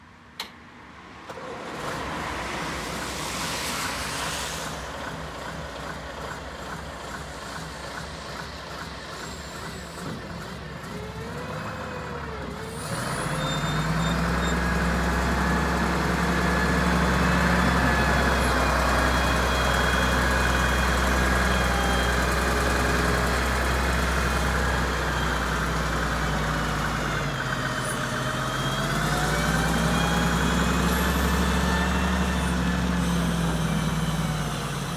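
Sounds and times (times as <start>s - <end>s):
diesel engine running: 1.4s - 34.9s.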